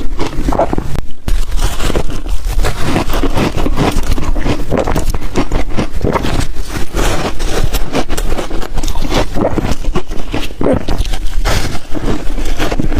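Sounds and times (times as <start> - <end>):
ice crunching being chewed: 0.0 - 12.9.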